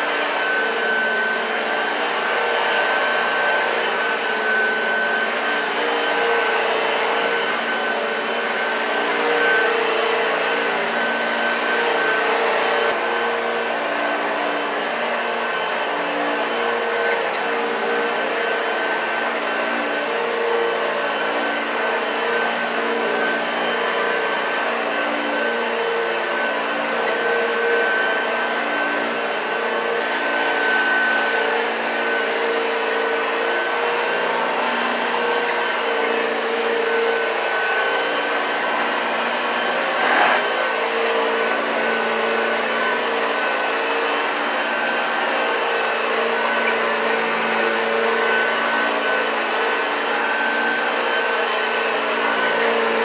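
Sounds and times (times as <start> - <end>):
upright vacuum cleaner running: 0.0 - 53.0.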